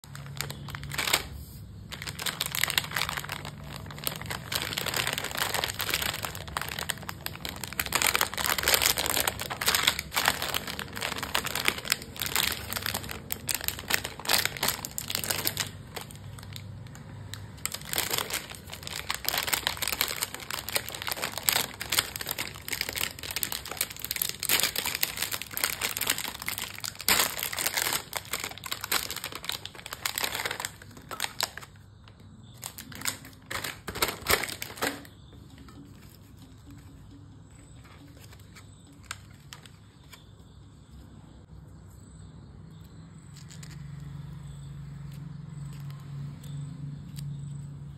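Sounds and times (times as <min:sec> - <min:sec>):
plastic wrapper crinkling: 0:00.0 - 0:40.4, 0:43.3 - 0:44.0.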